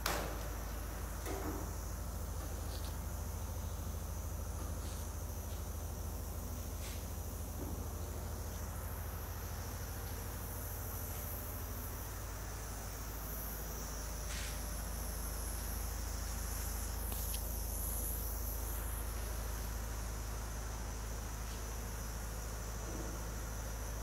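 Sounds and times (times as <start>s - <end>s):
insects chirring: 0.0s - 24.0s
low steady hum: 0.0s - 24.0s.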